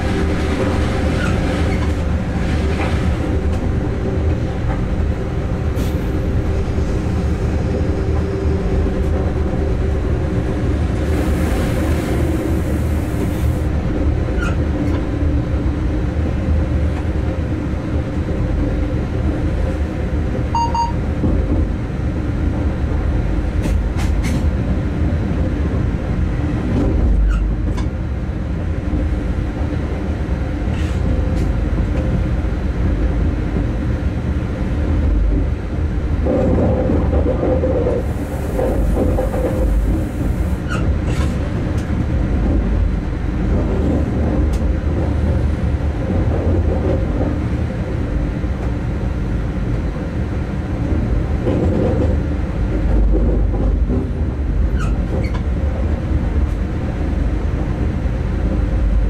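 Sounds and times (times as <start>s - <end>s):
locomotive rumbling on track: 0.0s - 59.0s.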